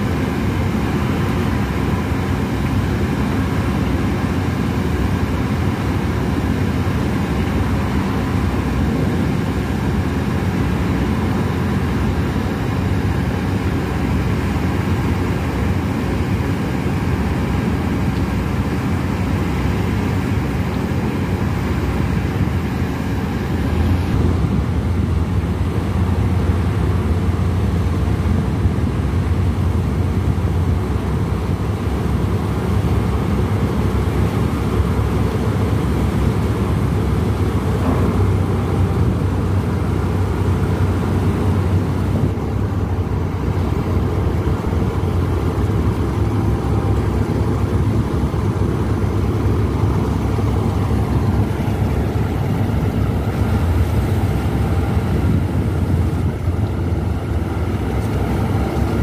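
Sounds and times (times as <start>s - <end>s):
boat engine low drone: 0.0s - 59.0s.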